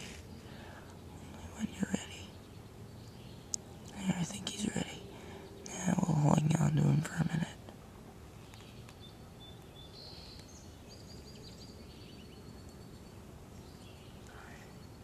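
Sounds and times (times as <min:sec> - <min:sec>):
distant birds calling: 0:00.0 - 0:15.0.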